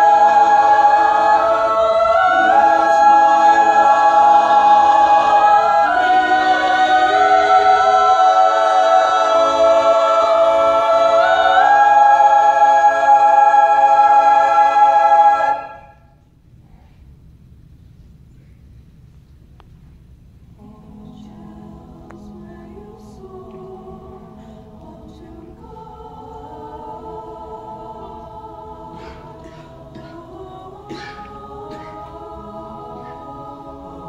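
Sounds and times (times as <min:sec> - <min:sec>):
mixed choir singing a cappella: 0:00.0 - 0:16.1, 0:20.6 - 0:34.0
low room noise: 0:00.0 - 0:34.0.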